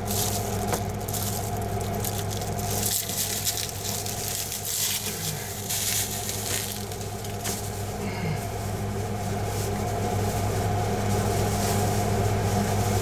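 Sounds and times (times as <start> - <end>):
roller squishing wet fiberglass: 0.0 - 13.0
steady low hum: 0.0 - 13.0.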